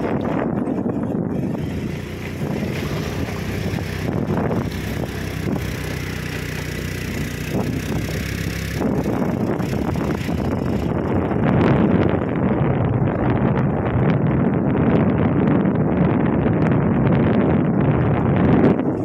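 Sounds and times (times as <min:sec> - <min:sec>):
road and wind noise: 0:00.0 - 0:19.0
vehicle engine running: 0:00.0 - 0:19.0.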